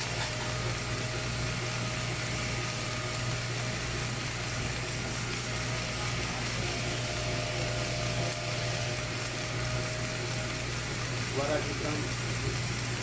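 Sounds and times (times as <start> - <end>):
cnc router humming with whine: 0.0 - 13.0.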